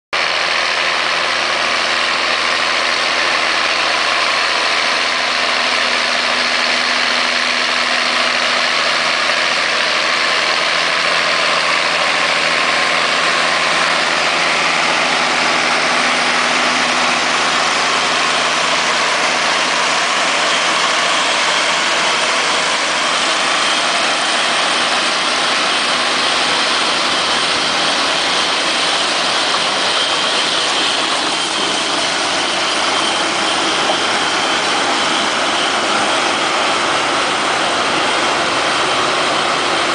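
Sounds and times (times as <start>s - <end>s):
tractor engine running: 0.1s - 39.9s
harvester chains and conveyors: 0.2s - 39.9s.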